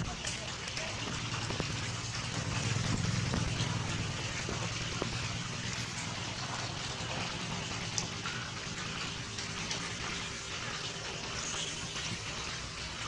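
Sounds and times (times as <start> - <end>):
small water drips: 0.0 - 13.0
water in rocky stream: 0.0 - 13.0.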